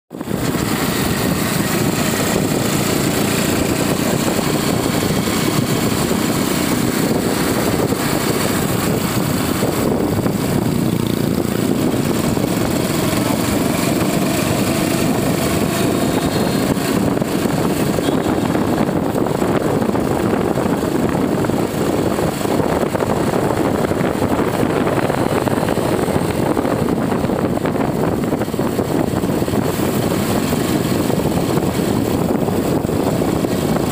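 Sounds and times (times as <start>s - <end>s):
motorbike engine running: 0.1s - 33.9s
wind rushing over microphone: 0.1s - 33.9s.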